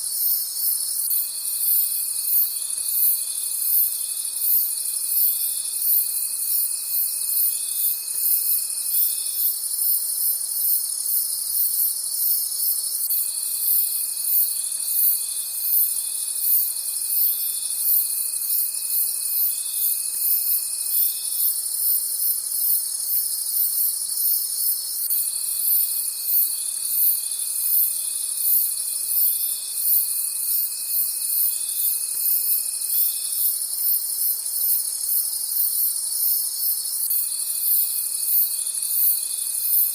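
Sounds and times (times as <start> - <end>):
crickets chirping: 0.0 - 39.9
low steady insect trill: 0.0 - 39.9.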